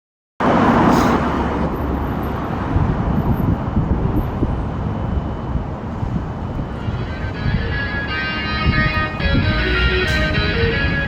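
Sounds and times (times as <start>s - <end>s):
road rumble: 0.4s - 11.0s
wind rushing over microphone: 0.4s - 11.0s.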